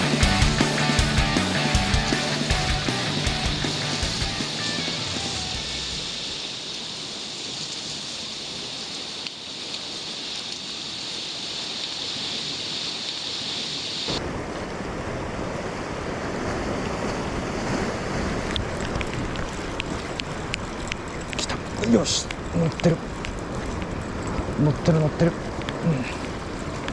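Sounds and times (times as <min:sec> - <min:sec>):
surf on rocky shore: 0:00.0 - 0:26.9.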